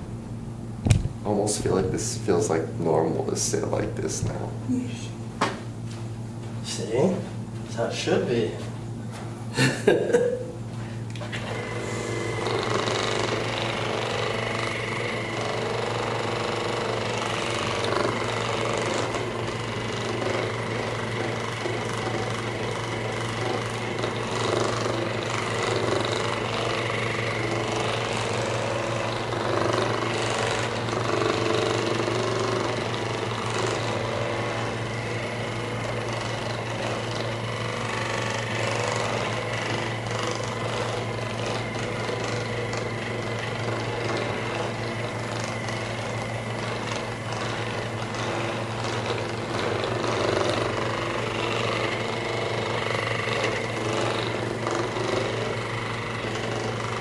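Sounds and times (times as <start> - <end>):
massage gun buzzing: 0.0 - 7.2, 7.8 - 57.0.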